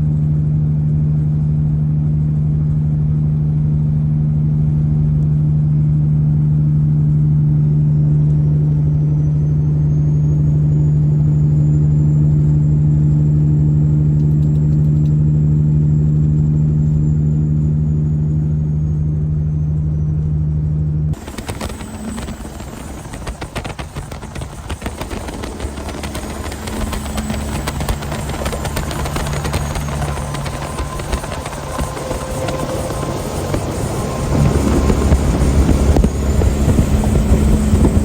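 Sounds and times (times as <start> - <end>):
diesel truck engine droning: 0.0 - 38.0.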